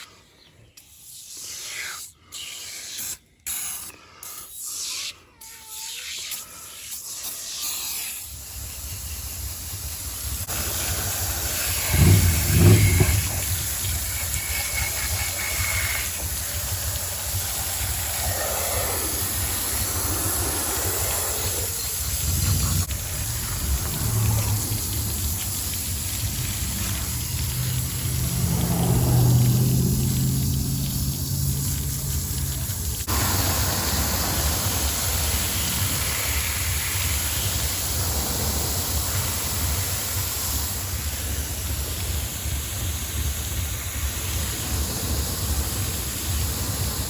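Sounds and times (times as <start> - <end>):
water spray hissing jet: 0.8 - 47.0.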